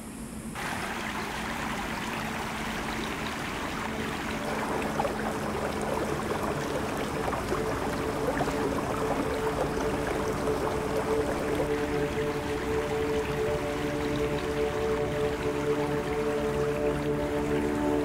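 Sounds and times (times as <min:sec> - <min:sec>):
stream trickling over rocks: 0:00.6 - 0:18.0
water splashes and drips: 0:00.6 - 0:18.0.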